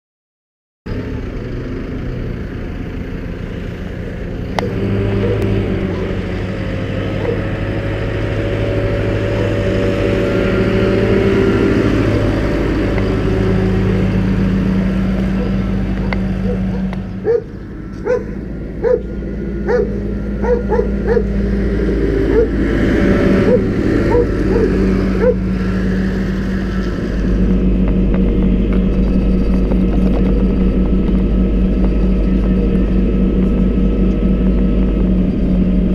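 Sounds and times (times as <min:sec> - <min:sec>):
diesel engine running: 0:00.9 - 0:35.9.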